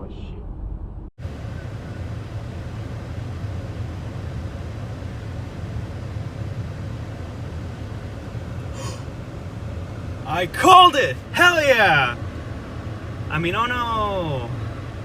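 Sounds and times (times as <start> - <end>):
car road and engine noise: 0.2 - 15.0.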